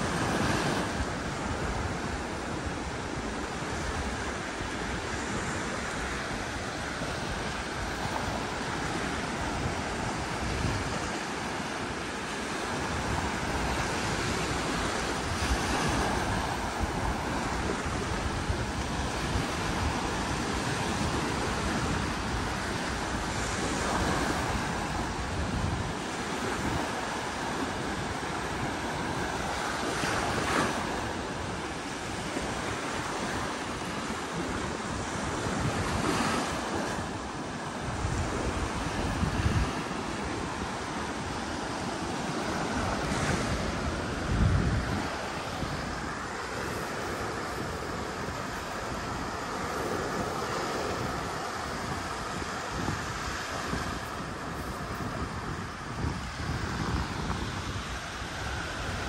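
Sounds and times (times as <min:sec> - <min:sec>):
sea waves washing onto beach: 0:00.0 - 0:59.0
wind buffeting microphone: 0:00.0 - 0:59.0.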